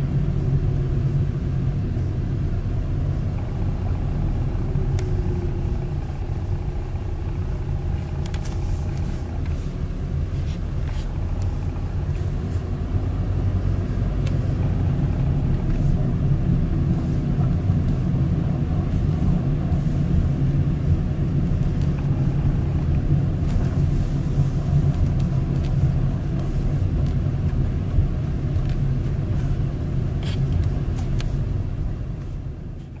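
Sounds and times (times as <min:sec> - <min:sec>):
engine and road noise: 0:00.0 - 0:33.0.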